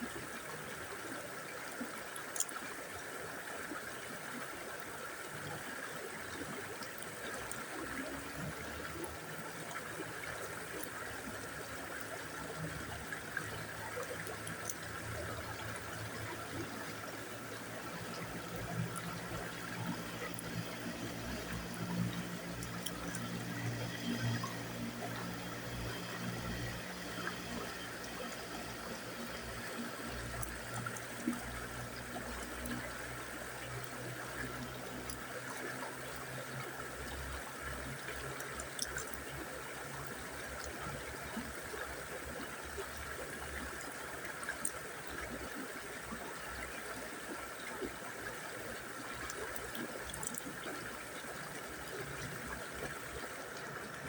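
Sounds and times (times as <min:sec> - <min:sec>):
river water flowing over stones: 0:00.0 - 0:54.0.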